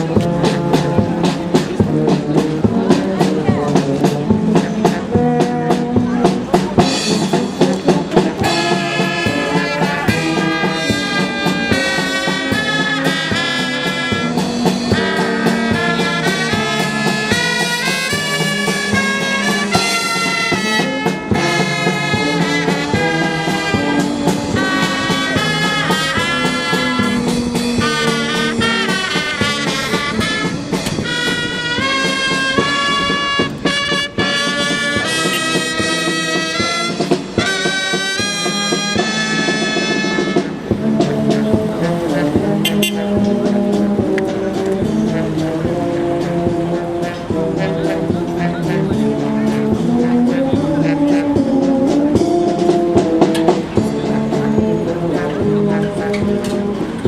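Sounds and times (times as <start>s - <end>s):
instrumental music: 0.0s - 57.0s.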